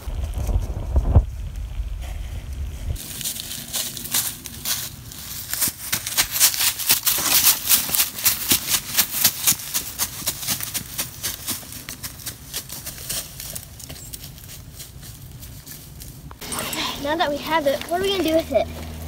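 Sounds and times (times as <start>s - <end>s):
footsteps crunching dry leaves: 2.0s - 19.0s.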